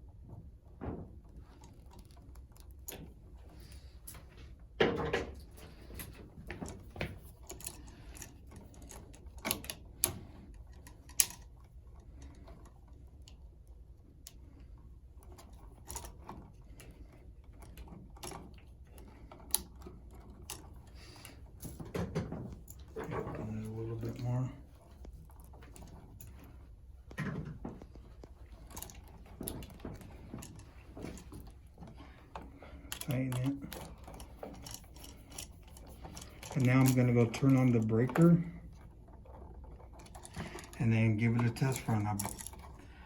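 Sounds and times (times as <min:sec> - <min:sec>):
small clicks and taps on wiring: 0:00.1 - 0:43.0.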